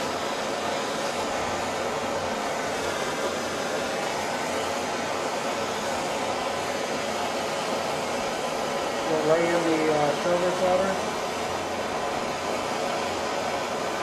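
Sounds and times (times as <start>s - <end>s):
gas torch hissing: 0.0s - 14.0s.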